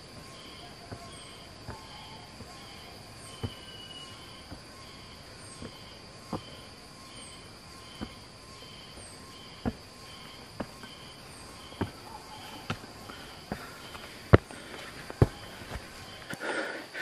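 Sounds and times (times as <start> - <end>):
footsteps on trail: 0.0 - 17.0
insects chirping: 0.0 - 17.0.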